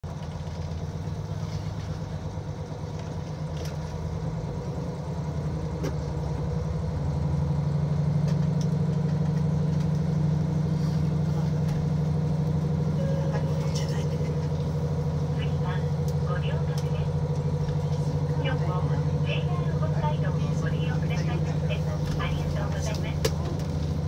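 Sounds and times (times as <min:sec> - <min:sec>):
diesel railcar engine idling: 0:00.0 - 0:24.0.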